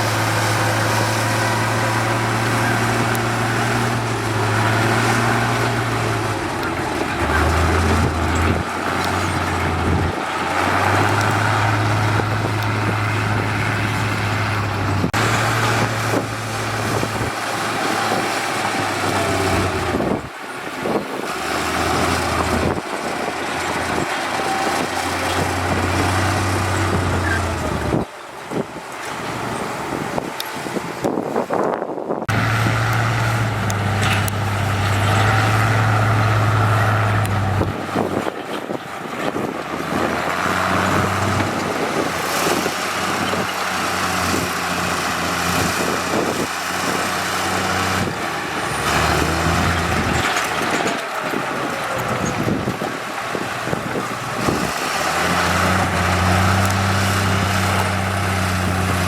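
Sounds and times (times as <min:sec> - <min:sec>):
construction work noise: 0:00.0 - 0:59.0
diesel engine hum: 0:00.0 - 0:59.0.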